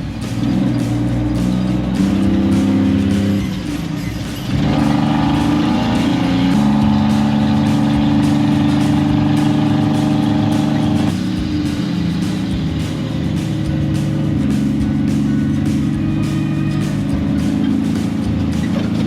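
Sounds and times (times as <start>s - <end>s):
background music with steady beat: 0.0s - 19.0s.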